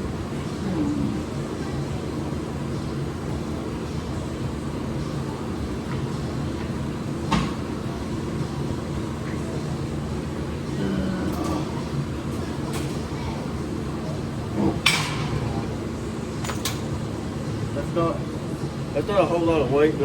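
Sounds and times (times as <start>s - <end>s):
low rumble of gym noise: 0.0s - 20.0s.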